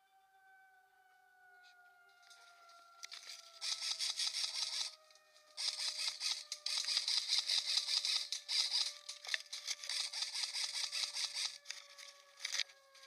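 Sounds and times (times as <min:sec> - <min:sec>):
leaves and twigs rustling: 0:02.2 - 0:13.0.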